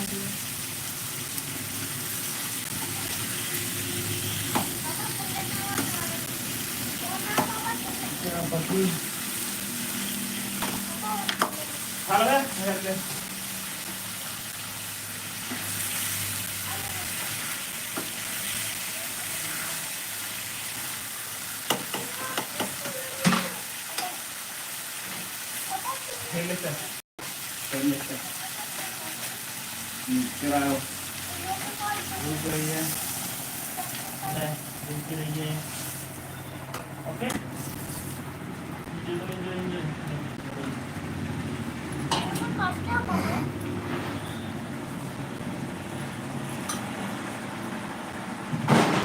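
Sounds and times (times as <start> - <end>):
food sizzling in hot oil: 0.0 - 49.0.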